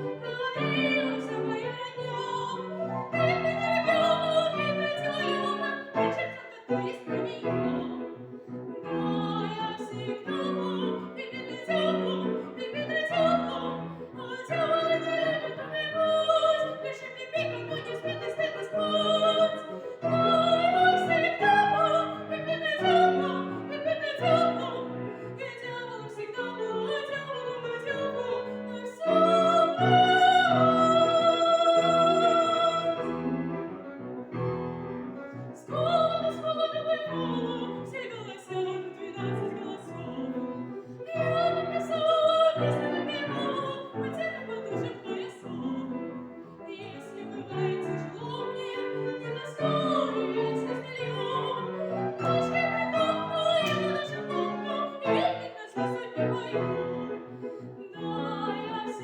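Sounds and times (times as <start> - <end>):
piano accompaniment: 0.0 - 59.0
woman singing classical song: 0.0 - 59.0.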